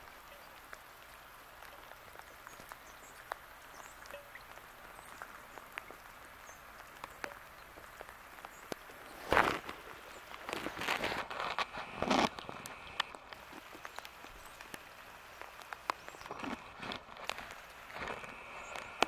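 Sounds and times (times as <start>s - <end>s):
light rain hiss: 0.0s - 19.0s
raindrops clicking: 0.0s - 19.0s.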